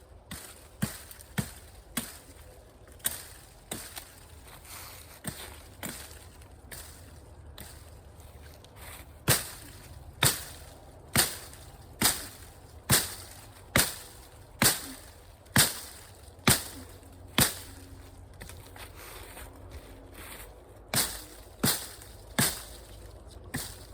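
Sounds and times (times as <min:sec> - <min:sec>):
axe chopping branches: 0:00.1 - 0:23.9.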